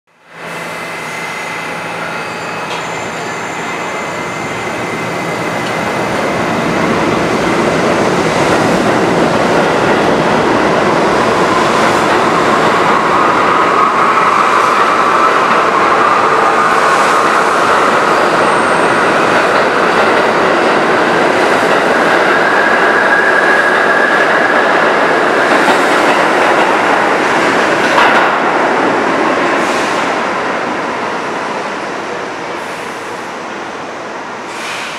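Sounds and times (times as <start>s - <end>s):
subway train wheels rumbling: 0.1s - 34.9s.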